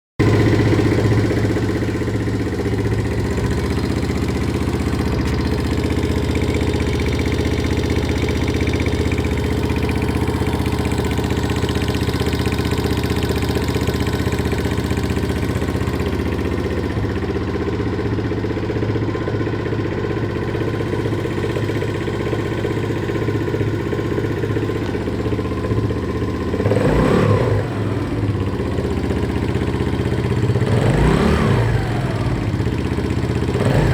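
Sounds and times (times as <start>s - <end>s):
motorcycle engine idling with knock: 0.2s - 31.4s, 32.4s - 33.9s
motorcycle engine revving: 0.2s - 33.9s.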